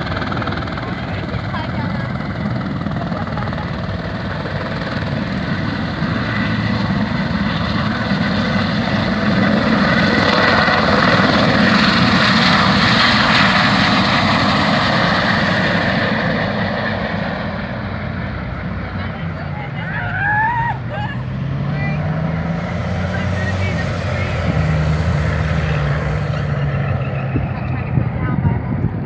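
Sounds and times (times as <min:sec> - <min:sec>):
helicopter rotor and engine: 0:00.0 - 0:29.0.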